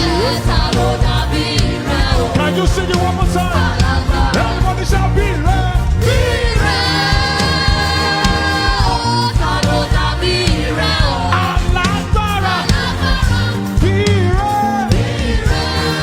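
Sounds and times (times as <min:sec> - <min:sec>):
gospel band playing: 0:00.0 - 0:16.0.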